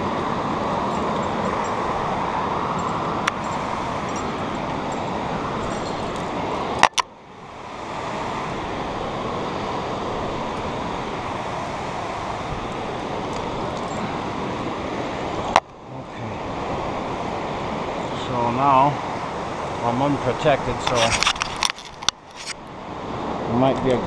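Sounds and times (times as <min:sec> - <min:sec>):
whitewater river rushing: 0:00.0 - 0:24.0.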